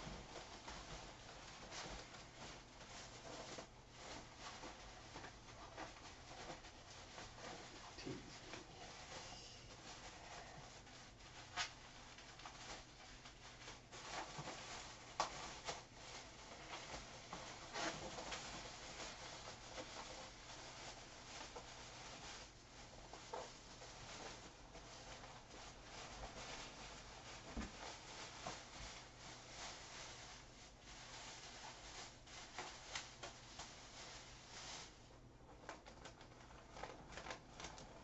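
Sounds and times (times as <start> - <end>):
plastic bag rustling: 0.0 - 38.0.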